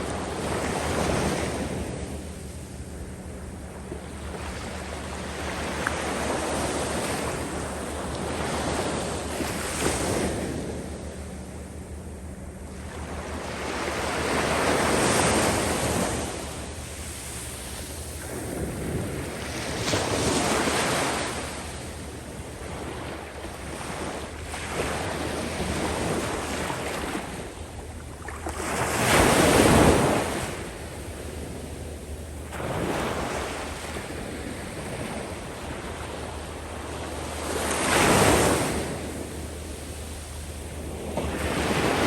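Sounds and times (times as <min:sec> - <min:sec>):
sea waves washing on sand: 0:00.0 - 0:11.4, 0:12.8 - 0:42.0.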